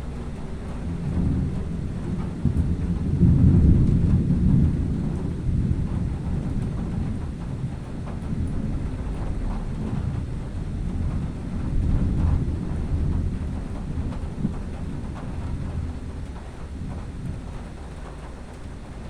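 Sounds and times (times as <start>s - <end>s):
rolling thunder: 0.0s - 19.0s.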